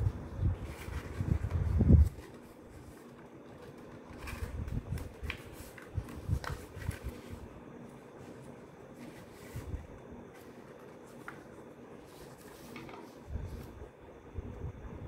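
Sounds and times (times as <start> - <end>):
paper rustling and crinkling: 0.2 - 13.9.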